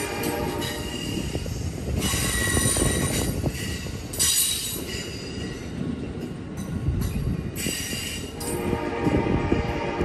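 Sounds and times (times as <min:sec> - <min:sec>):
train cars rolling past: 0:00.0 - 0:10.0.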